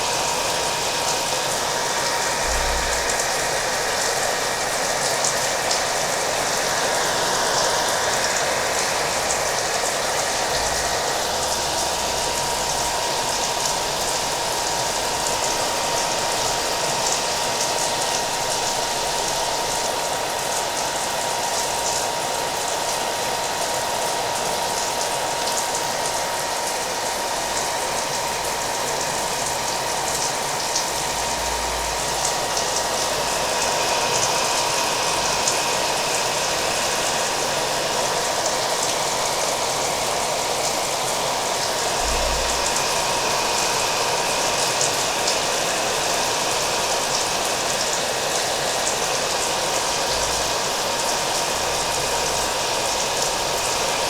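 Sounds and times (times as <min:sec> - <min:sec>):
hair dryer whining: 0:00.0 - 0:54.0
rain falling: 0:07.6 - 0:54.0.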